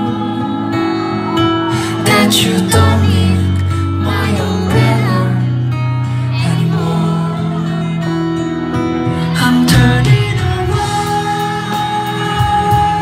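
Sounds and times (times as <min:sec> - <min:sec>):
man singing live pop song: 0:00.0 - 0:13.0.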